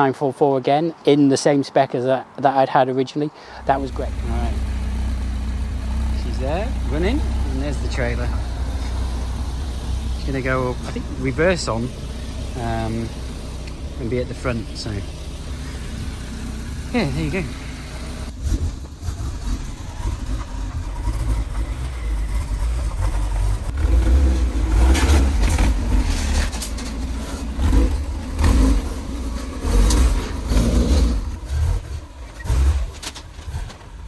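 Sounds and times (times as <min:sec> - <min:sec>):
car engine revving: 0:03.6 - 0:34.0.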